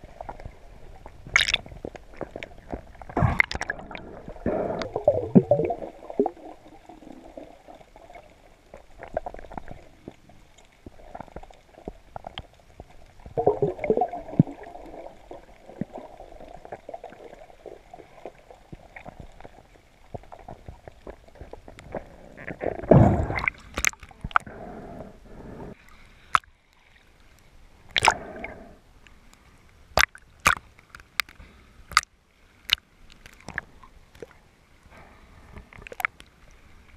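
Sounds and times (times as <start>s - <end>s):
water clicks and splashes: 0.0s - 24.5s, 26.3s - 28.2s, 30.0s - 34.4s, 35.5s - 36.9s
muffled underwater sloshing: 0.0s - 29.6s.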